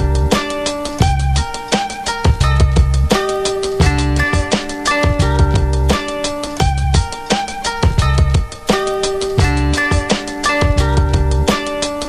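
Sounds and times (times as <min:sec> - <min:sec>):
heavy bass line: 0:00.0 - 0:01.6, 0:02.3 - 0:07.2, 0:07.8 - 0:08.6, 0:09.3 - 0:11.6
instrumental background music: 0:00.0 - 0:12.0
steady drum beat: 0:00.0 - 0:12.0.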